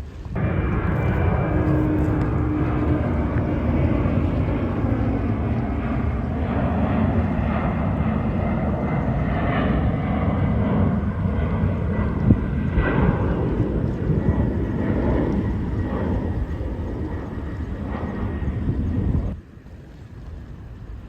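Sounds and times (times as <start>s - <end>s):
faint high whine: 0.0s - 21.0s
jet engine rumble: 0.0s - 21.0s.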